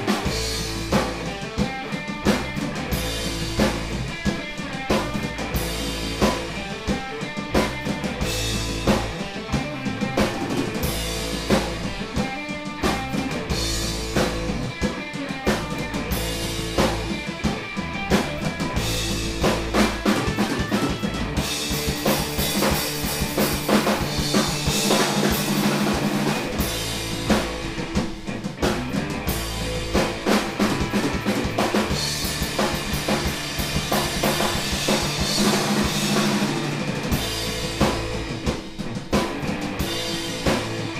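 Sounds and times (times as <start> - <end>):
drum kit kick and snare: 0.0 - 40.9
electric guitars: 0.0 - 40.9.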